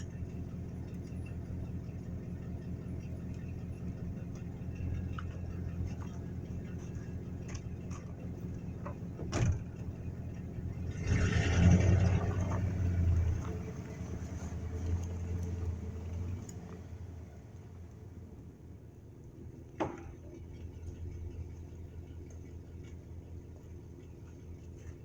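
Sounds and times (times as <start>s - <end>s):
heavy vehicle engine running: 0.0s - 25.0s.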